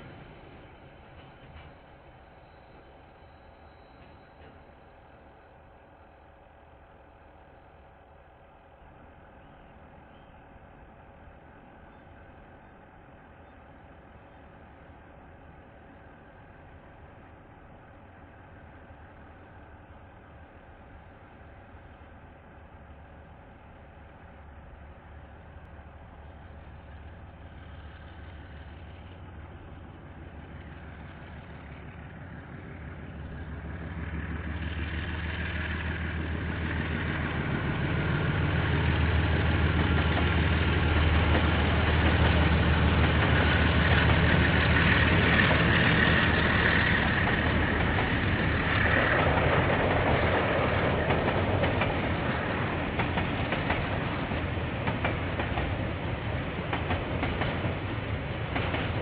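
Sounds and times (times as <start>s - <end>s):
locomotive engine drone: 0.0s - 59.0s.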